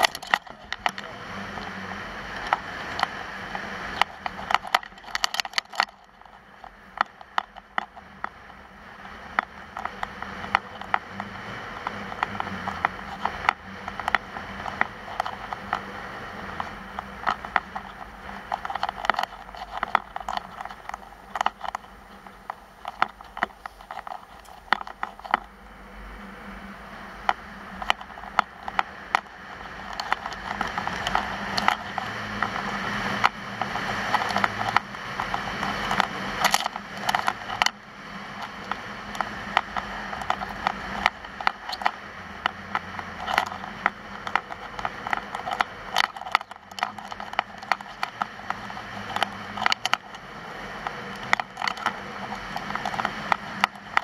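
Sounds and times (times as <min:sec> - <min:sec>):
sharp clicks and knocks: 0:00.0 - 0:25.6, 0:27.2 - 0:54.0.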